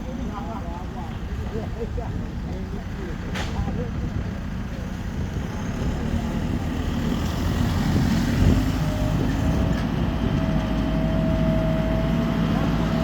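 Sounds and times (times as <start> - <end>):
heavy machine low rumble: 0.0 - 13.0.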